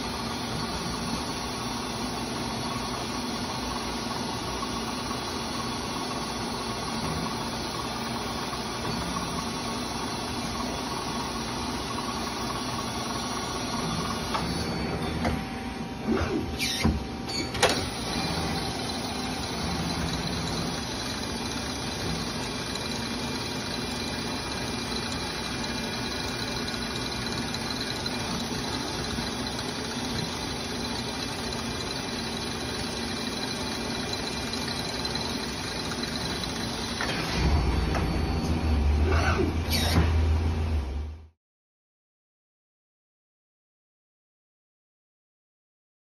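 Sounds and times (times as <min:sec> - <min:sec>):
lathe humming and whining: 0:00.0 - 0:40.8.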